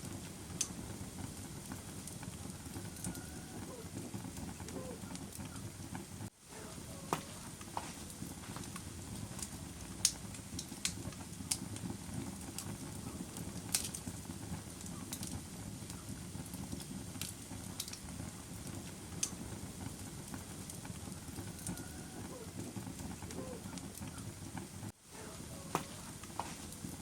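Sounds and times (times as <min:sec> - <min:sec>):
campfire flames rushing: 0:00.0 - 0:27.0
fire crackling and popping: 0:00.0 - 0:27.0.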